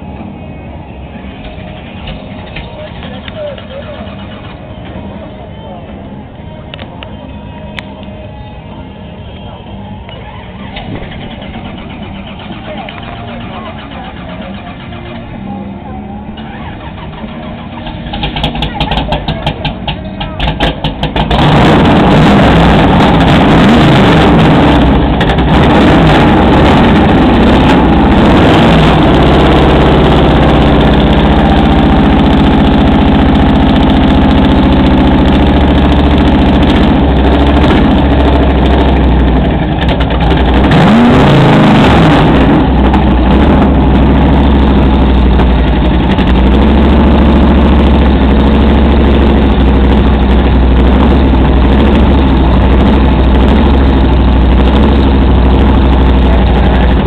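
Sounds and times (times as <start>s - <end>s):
race car engine idling and revving: 0.0s - 57.0s.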